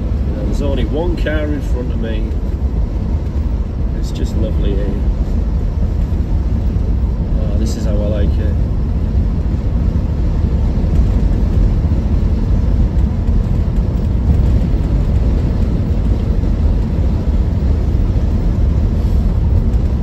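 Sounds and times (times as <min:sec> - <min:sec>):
car engine burbling: 0:00.0 - 0:20.0
road and wind rumble: 0:00.0 - 0:20.0.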